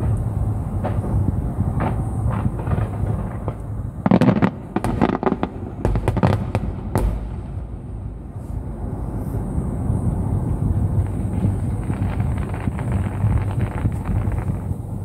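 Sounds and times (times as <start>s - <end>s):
fireworks bursting: 0.0s - 15.0s
low rumble: 0.0s - 15.0s.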